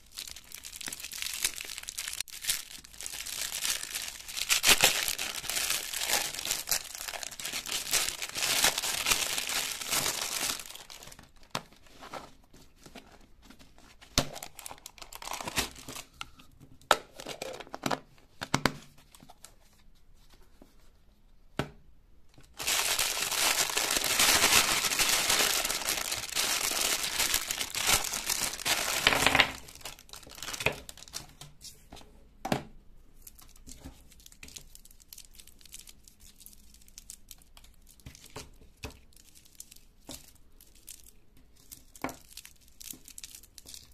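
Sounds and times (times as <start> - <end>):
plastic wrapper crinkling and tearing: 0.0 - 16.2, 22.4 - 31.4, 33.2 - 43.9.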